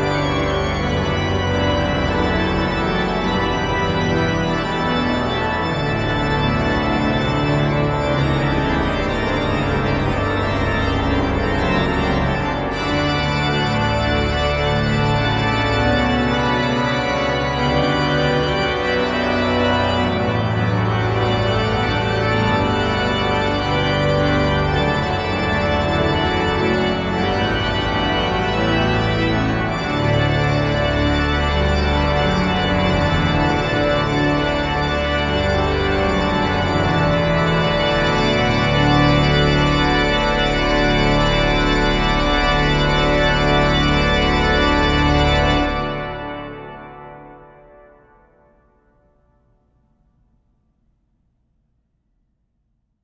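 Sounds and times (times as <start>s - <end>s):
pipe organ chords: 0.0s - 48.8s.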